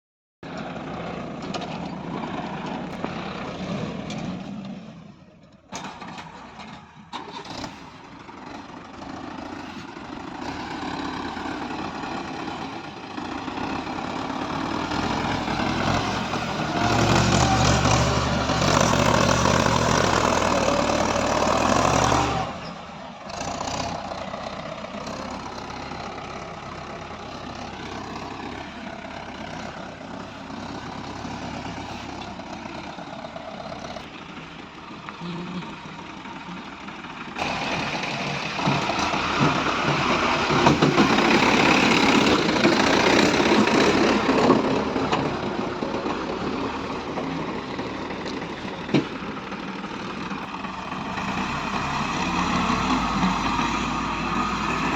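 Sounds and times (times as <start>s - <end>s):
heavy vehicle engines running: 0.4s - 54.9s.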